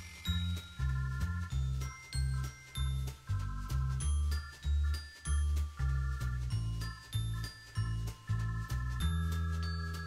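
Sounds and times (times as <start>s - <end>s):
bell-like tinkling tones: 0.0s - 10.0s
low bass notes: 0.4s - 10.0s.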